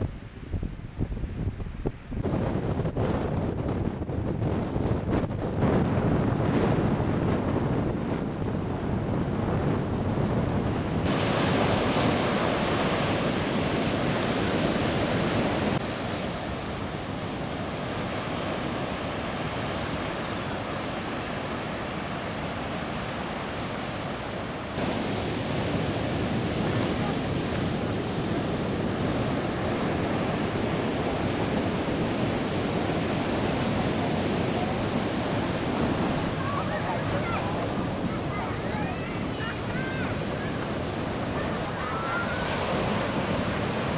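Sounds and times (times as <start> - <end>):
wind buffeting microphone: 0.0 - 43.9
sea surf breaking: 5.4 - 43.9.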